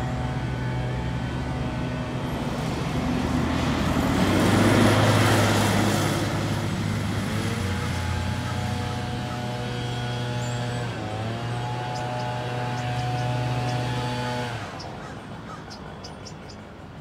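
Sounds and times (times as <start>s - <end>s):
fire engine driving past: 0.0s - 17.0s.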